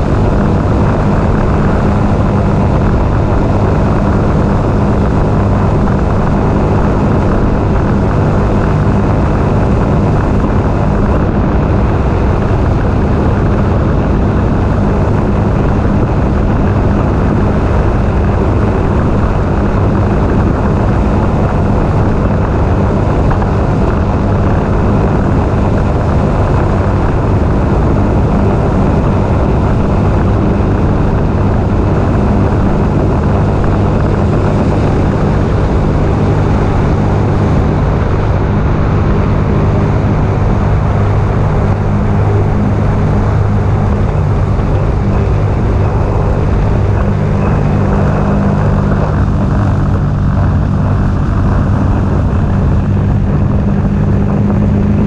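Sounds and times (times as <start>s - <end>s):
personal watercraft engine droning: 0.0s - 55.0s.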